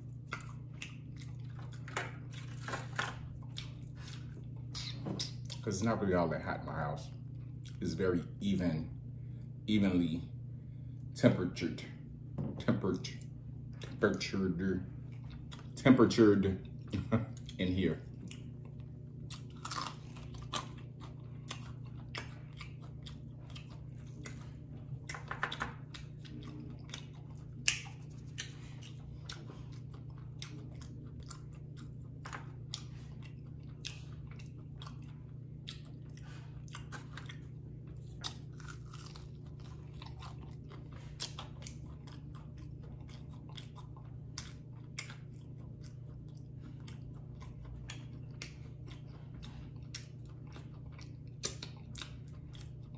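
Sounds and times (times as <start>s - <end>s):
chewing crunchy food: 0.0s - 8.4s, 12.8s - 52.9s
steady low hum: 0.0s - 52.9s.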